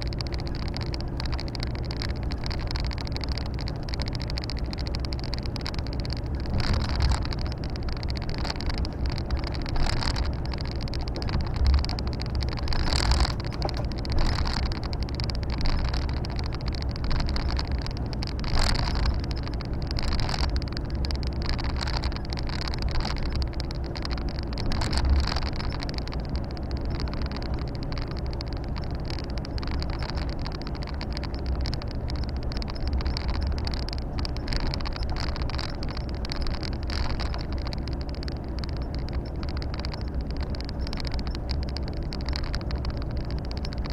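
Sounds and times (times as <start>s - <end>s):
road and tyre noise: 0.0s - 43.9s
truck engine drone: 0.0s - 43.9s.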